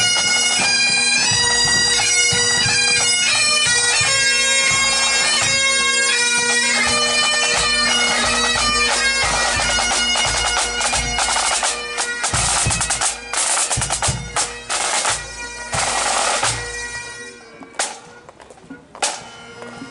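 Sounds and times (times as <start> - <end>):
bagpipes playing: 0.0 - 18.3, 18.9 - 19.9
bagpipe drones: 0.0 - 19.9.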